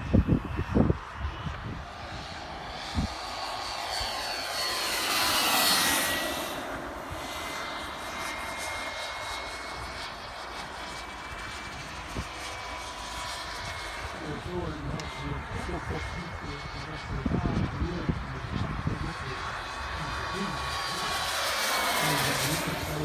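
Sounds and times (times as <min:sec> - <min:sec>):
airplane flying past: 0:00.0 - 0:23.0.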